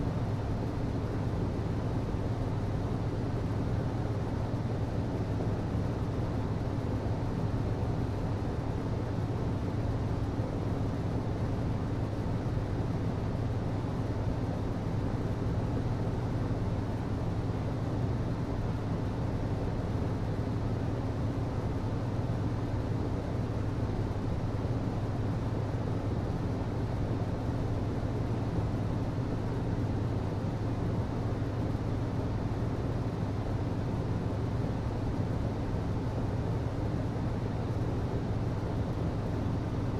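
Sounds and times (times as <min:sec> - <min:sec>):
hvac low hum: 0:00.0 - 0:39.9.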